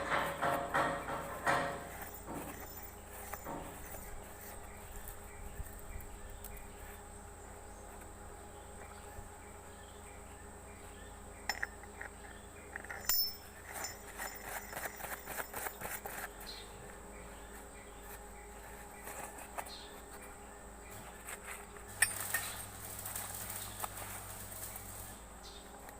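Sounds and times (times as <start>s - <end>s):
faint background hum: 0.0s - 25.9s
high insect-like buzz: 2.1s - 25.8s.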